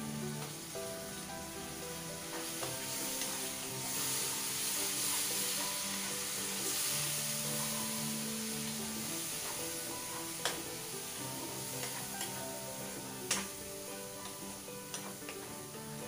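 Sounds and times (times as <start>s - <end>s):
masala sizzling in hot oil: 0.0s - 16.0s
ladle stirring in pan: 2.2s - 15.8s.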